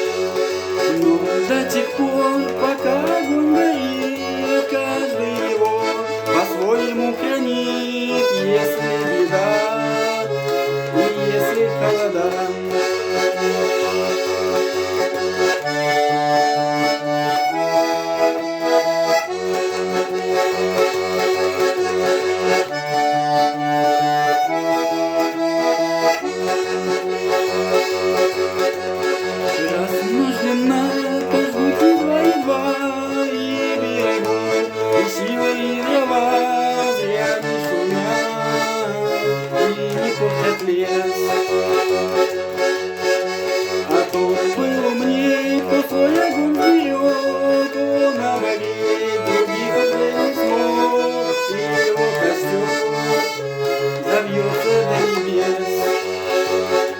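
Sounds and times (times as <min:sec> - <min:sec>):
button accordion playing: 0:00.0 - 0:56.9.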